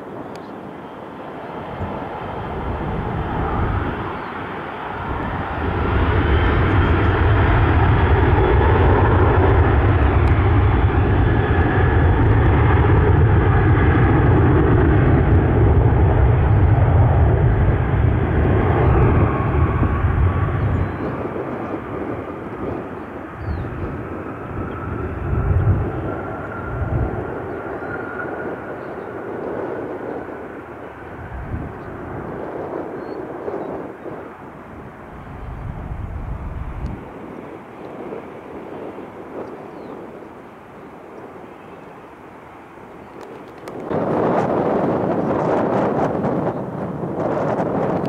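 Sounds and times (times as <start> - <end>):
airplane engines passing: 0.0 - 48.0.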